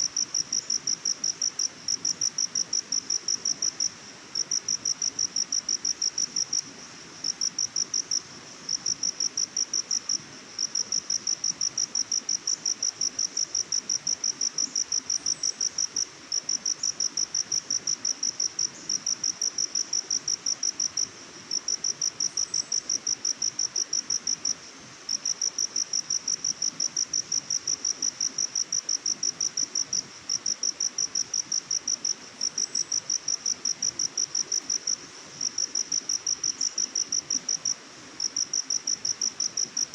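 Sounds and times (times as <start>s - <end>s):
faint hiss: 0.0s - 39.9s
insect chirping: 0.0s - 39.9s.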